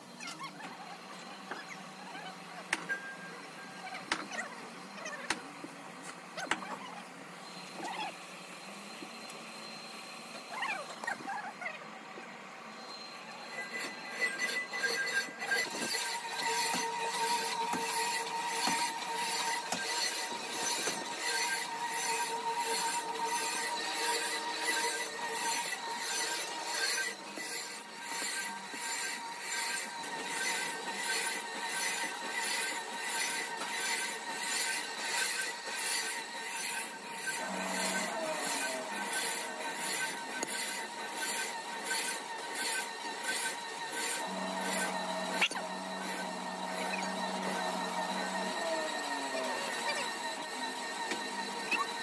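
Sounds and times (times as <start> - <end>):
sand mixer humming and clattering: 0.0 - 52.0.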